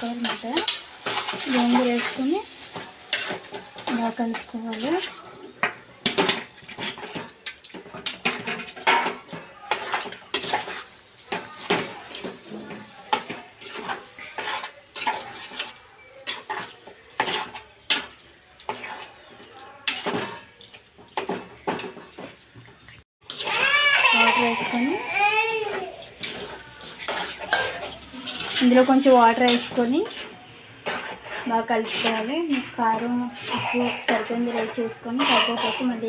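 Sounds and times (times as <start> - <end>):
ladle scraping against pan: 0.0 - 22.6, 23.2 - 35.6.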